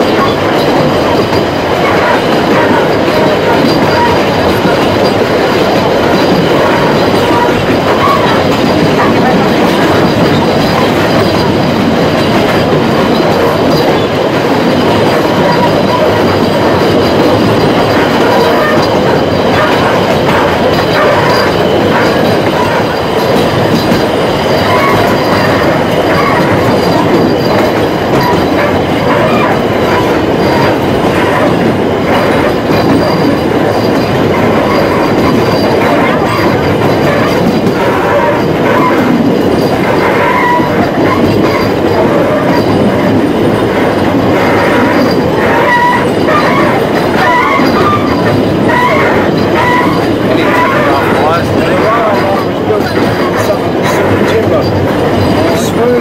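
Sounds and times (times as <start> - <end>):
wheel squeal: 0.0 - 43.3, 44.0 - 56.0
train wheels rumbling on rails: 0.0 - 56.0.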